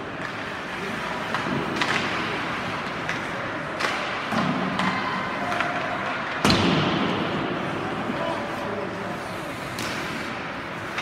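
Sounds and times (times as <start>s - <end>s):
hockey sticks and puck clacking: 0.0s - 11.0s.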